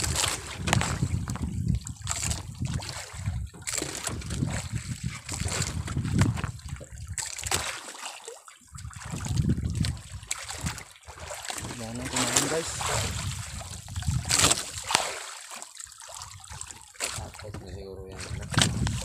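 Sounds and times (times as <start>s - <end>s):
water splashing against boat: 0.0s - 19.0s.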